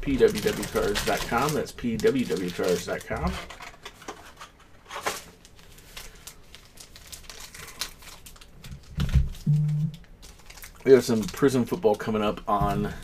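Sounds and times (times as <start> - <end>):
foil card packs crinkling: 0.0 - 13.0.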